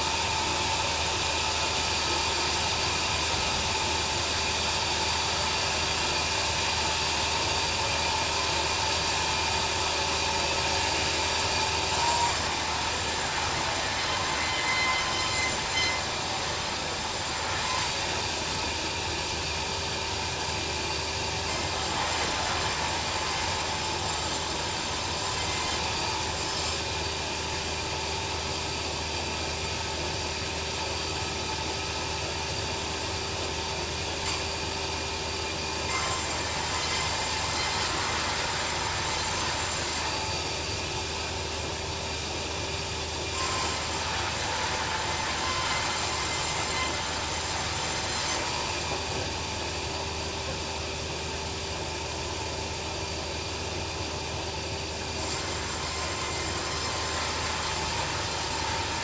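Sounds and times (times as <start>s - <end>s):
bandsaw sawmill whining: 0.0s - 29.2s, 33.9s - 50.8s, 55.0s - 59.0s.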